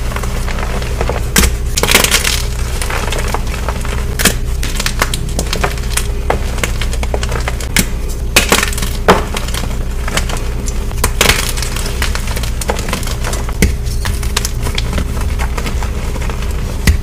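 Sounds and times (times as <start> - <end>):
loud chalk cracks: 0.2 - 17.0.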